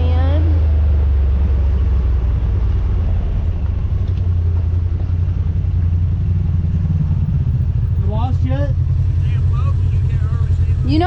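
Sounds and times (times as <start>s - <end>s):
low engine drone: 0.0s - 11.0s
road noise: 0.0s - 11.0s.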